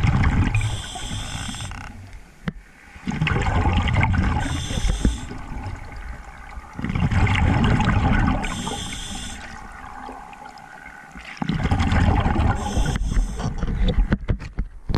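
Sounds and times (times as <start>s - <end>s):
underwater water sloshing: 0.0s - 14.9s.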